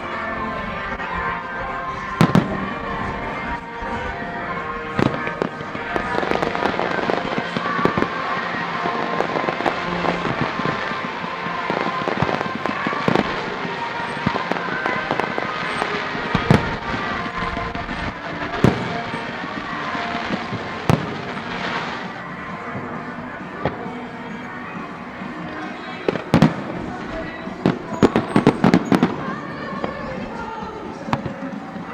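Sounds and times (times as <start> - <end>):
fireworks crackling: 0.0 - 31.9
fireworks sharp bangs: 0.0 - 31.9.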